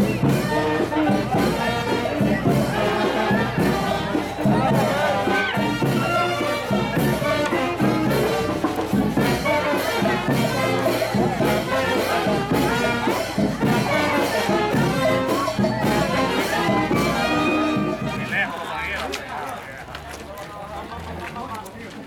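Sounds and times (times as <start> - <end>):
brass band playing dance music: 0.0 - 19.0.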